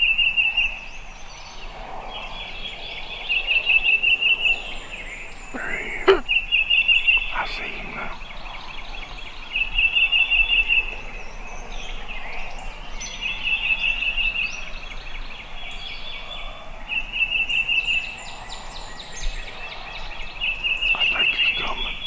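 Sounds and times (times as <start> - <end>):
higher bird chirps: 0.0 - 14.7, 15.7 - 22.0.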